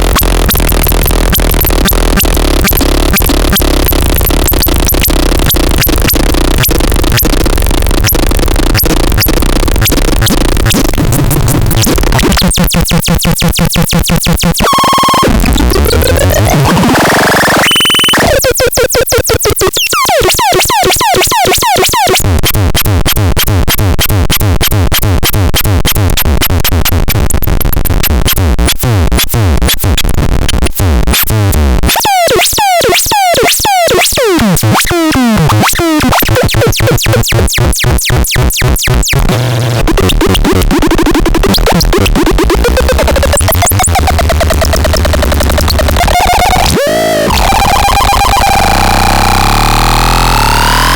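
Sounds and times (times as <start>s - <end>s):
electronic synthesizer sounds: 0.0s - 50.9s.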